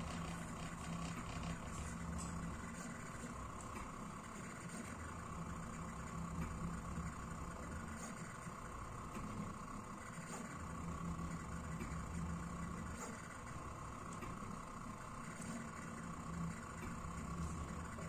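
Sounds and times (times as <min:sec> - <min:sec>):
laser engraver mechanical hum: 0:00.0 - 0:18.0.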